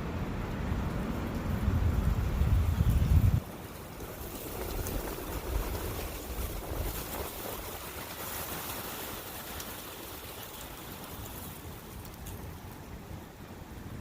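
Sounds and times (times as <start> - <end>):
brook running: 0.0 - 14.0
wind blowing: 0.0 - 14.0
wind rumble on microphone: 0.0 - 14.0.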